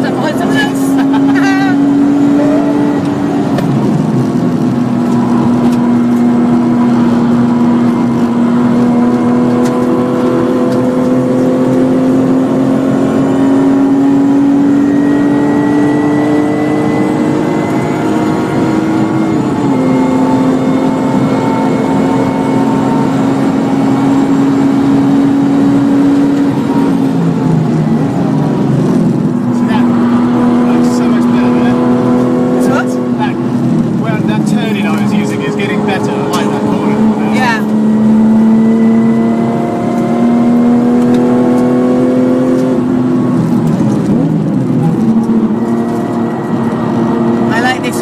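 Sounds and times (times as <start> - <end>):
car engine revving under acceleration: 0.0 - 48.0.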